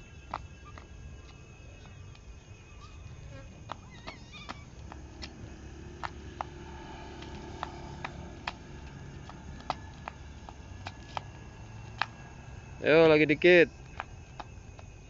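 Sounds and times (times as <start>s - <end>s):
low steady rumble: 0.0s - 15.0s
sandals slapping on asphalt: 0.0s - 15.0s.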